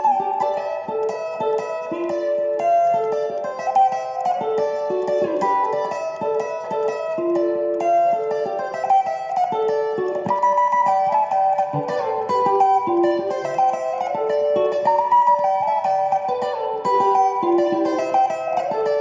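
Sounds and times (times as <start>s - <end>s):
guitar quick picked notes: 0.0s - 19.0s.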